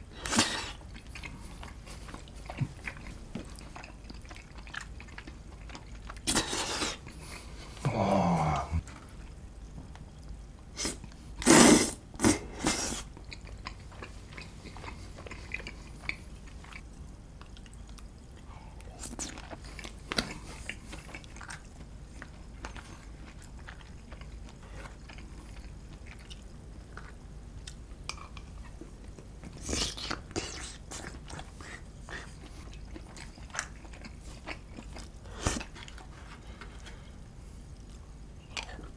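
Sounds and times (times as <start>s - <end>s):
close wet chewing: 0.2s - 7.8s, 12.2s - 37.0s.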